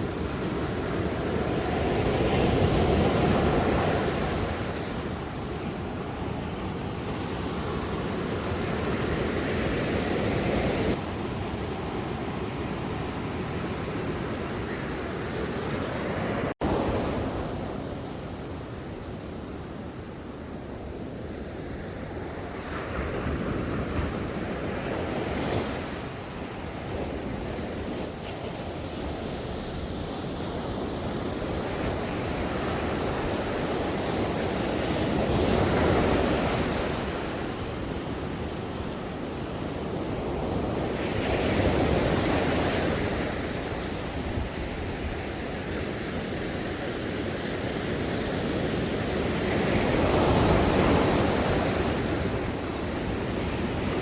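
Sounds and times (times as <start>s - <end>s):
ocean waves washing onto shore: 0.0s - 54.0s.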